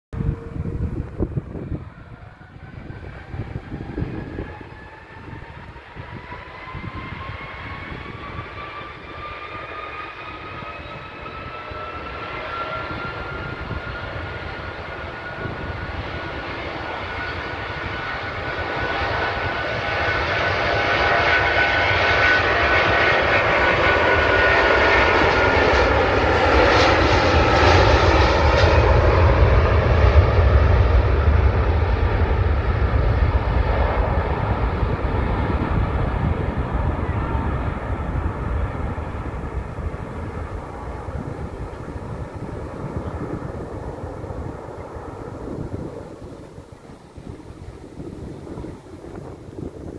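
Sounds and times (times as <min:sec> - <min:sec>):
jet engines spooling up: 0:00.2 - 0:49.9.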